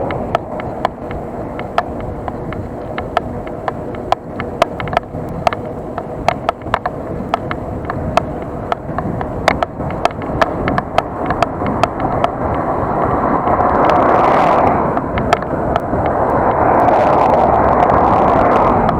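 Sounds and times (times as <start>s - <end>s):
bike ticks and rattles: 0.0s - 18.9s
wind and rolling noise: 0.0s - 18.9s.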